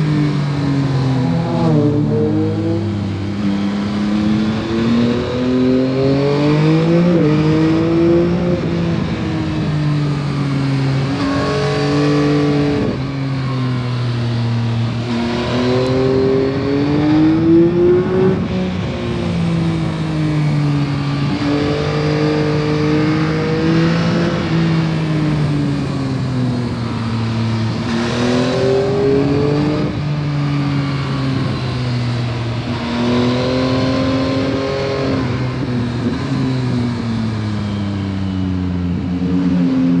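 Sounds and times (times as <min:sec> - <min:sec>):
motorcycle engine accelerating: 0:00.0 - 0:40.0
wind and road noise: 0:00.0 - 0:40.0.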